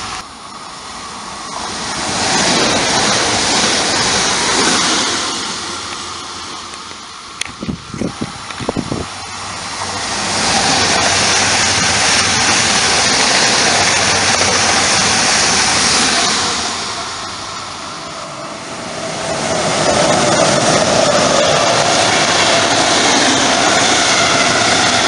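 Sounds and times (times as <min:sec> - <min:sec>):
locomotive hauling coaches: 0:00.0 - 0:25.0
train passing at speed: 0:00.0 - 0:25.0.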